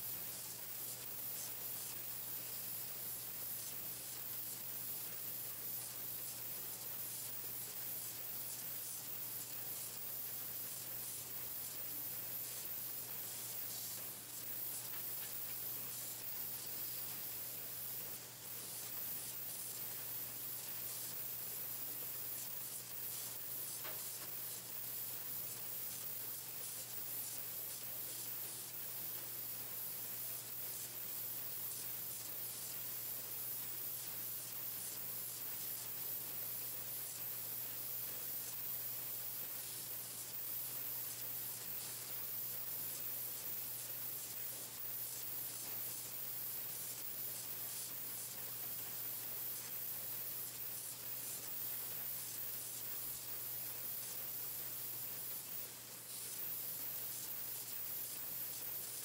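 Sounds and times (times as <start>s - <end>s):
machine hissing: 0.0s - 59.0s.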